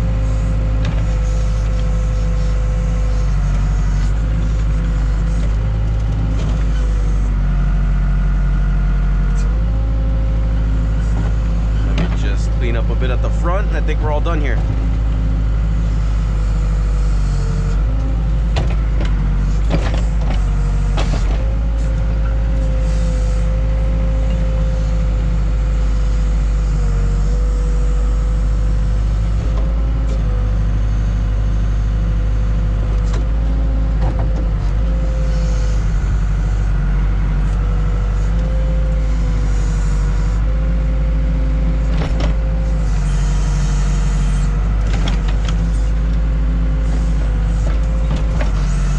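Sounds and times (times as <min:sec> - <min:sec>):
diesel engine running: 0:00.0 - 0:48.9
hydraulic whine: 0:00.0 - 0:48.9.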